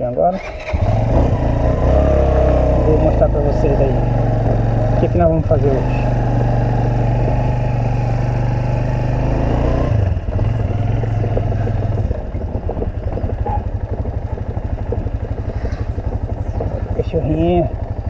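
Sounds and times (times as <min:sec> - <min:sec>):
motorcycle engine putter: 0:02.0 - 0:08.9, 0:09.9 - 0:18.0.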